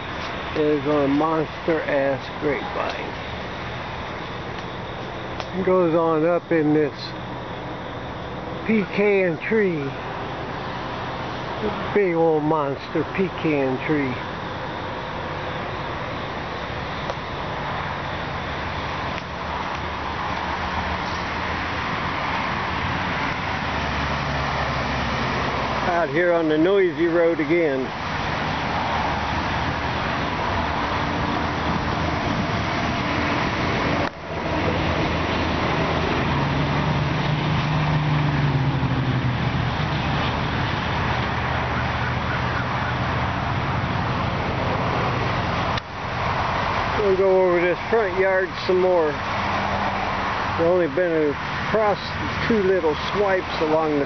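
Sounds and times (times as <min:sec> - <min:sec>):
passing cars: 0:00.0 - 0:54.0
vehicle engine hum: 0:00.0 - 0:54.0.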